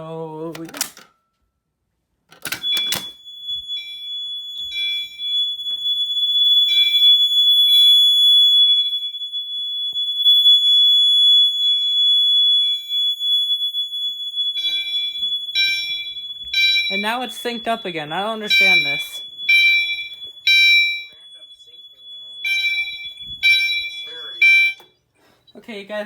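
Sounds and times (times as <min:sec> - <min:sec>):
fire alarm horns blaring: 0:02.5 - 0:25.4.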